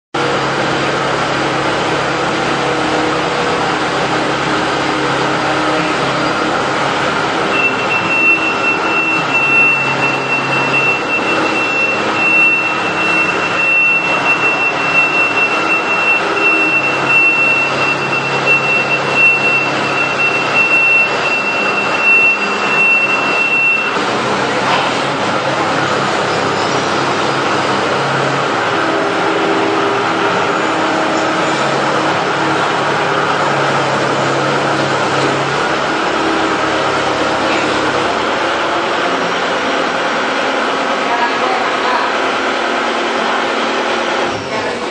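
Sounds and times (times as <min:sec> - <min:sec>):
diesel engine running: 0:00.2 - 0:44.9.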